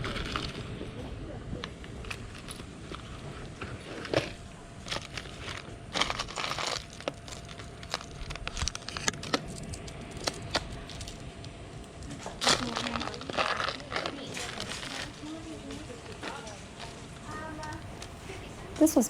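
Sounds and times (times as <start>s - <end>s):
jewelry crinkling and rustling: 1.9s - 19.0s.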